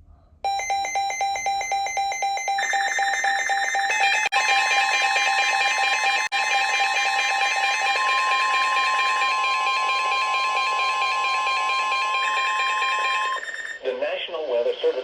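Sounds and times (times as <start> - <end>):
steady alarm tone: 0.5 - 13.8.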